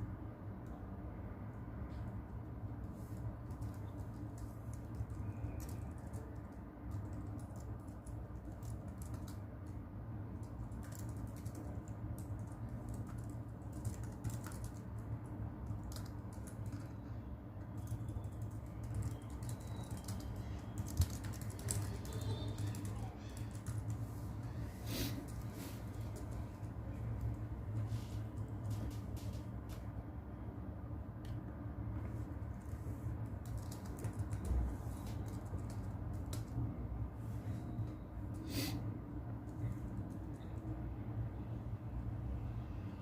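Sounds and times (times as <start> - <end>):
low rumble of brown noise: 0.0 - 43.0.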